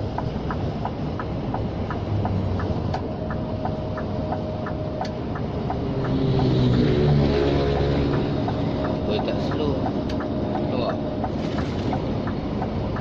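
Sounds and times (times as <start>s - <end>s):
diesel truck engine running: 0.0s - 13.0s
regular ticking: 0.0s - 13.0s.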